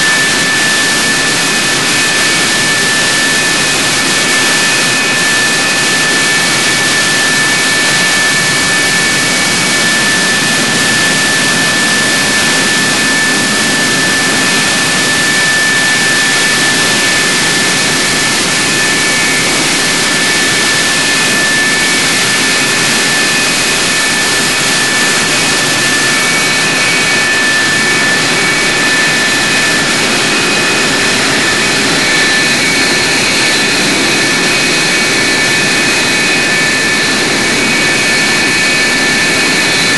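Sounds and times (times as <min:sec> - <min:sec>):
jet engine running with whine: 0:00.0 - 0:39.9.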